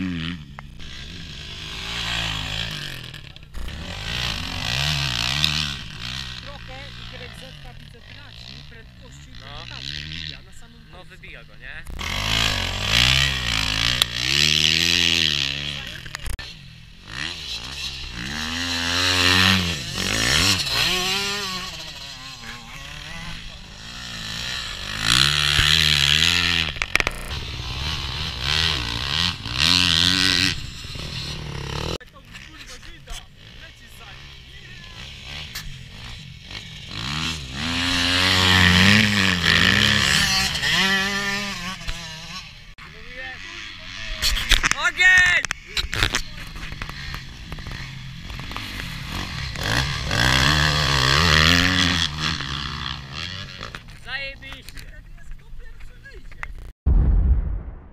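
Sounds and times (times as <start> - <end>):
motocross bike engines revving: 0.0 - 56.7.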